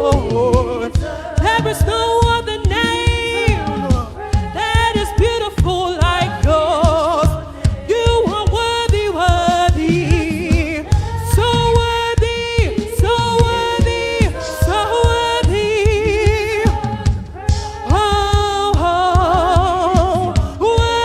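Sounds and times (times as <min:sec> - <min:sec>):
gospel singing with band: 0:00.0 - 0:21.0.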